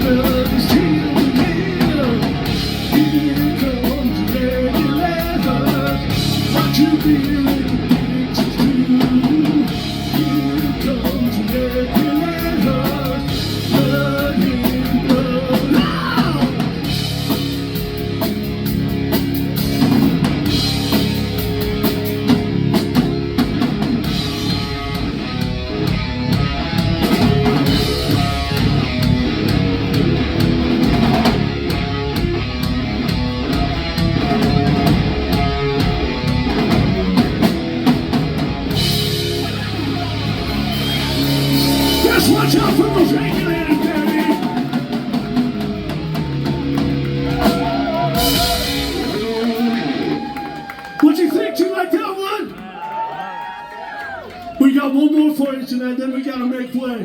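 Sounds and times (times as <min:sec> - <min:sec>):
drum kit beat: 0:00.0 - 0:51.0
bass guitar: 0:00.0 - 0:51.2
electric guitar: 0:00.0 - 0:51.5.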